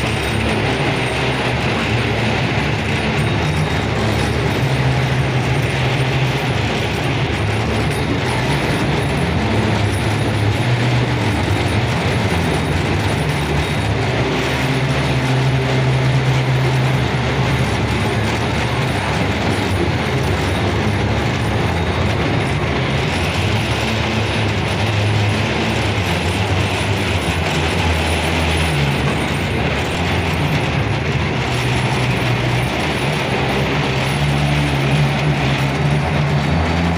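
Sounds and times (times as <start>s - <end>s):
train rumbling and rattling: 0.0s - 36.9s.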